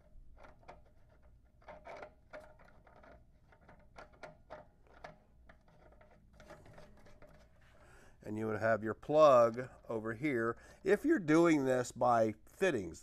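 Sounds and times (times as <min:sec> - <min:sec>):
metallic clicks of hose fitting: 0:00.0 - 0:08.2, 0:08.9 - 0:11.4.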